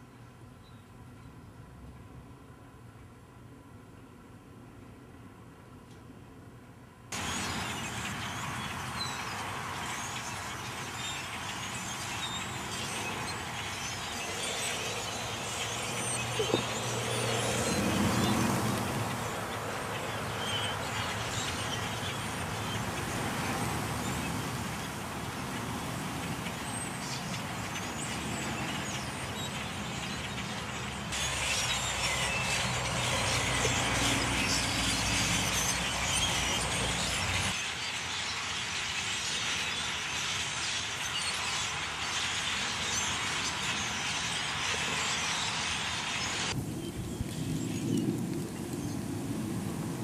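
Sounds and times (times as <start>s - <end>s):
flock of blackbirds calling: 7.2s - 49.4s.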